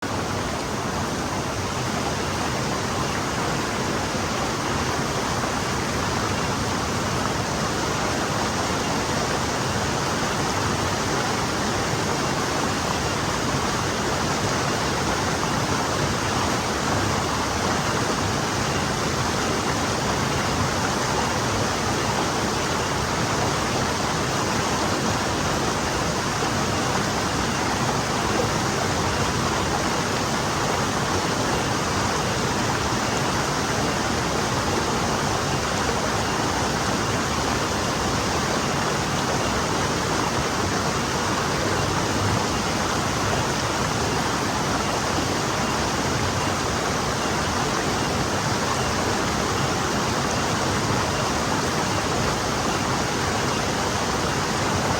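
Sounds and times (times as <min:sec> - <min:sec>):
stream flowing over rocks: 0:00.0 - 0:54.9.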